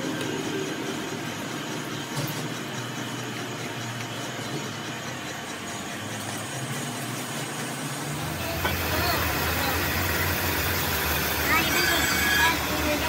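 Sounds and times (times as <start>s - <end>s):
low mechanical hum of machinery: 0.0s - 13.0s.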